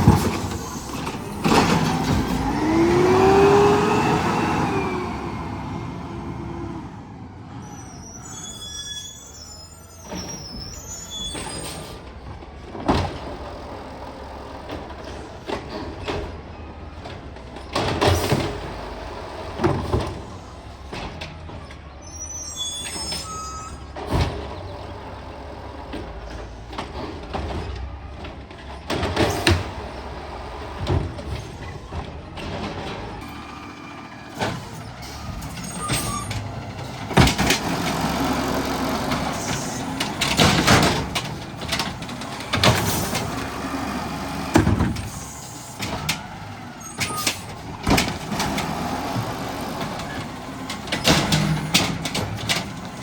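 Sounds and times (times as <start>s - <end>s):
garbage truck engine running: 0.0s - 53.0s.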